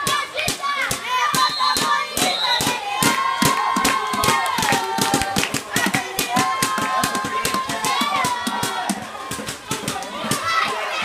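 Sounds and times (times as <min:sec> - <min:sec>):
people shouting: 0:00.0 - 0:11.0.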